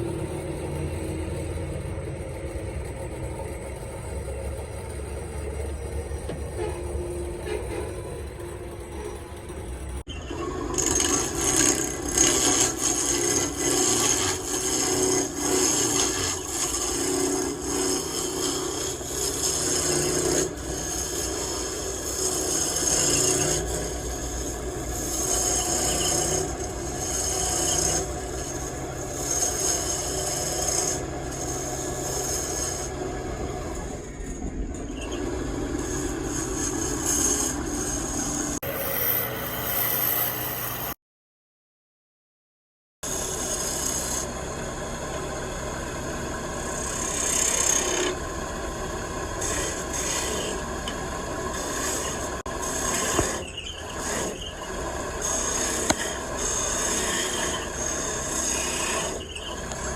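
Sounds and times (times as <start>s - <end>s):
lathe motor hum: 0.0s - 10.1s, 10.7s - 34.2s, 35.0s - 41.0s, 43.1s - 59.9s
lathe tool scraping wood: 0.0s - 41.0s, 43.0s - 59.9s.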